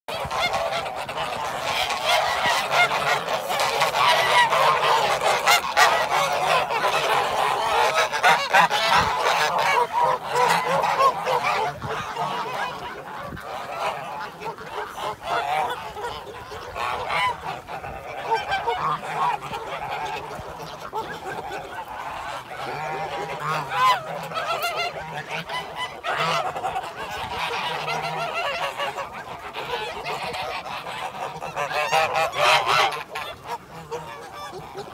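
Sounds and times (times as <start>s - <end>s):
flock of birds calling: 0.1s - 34.9s.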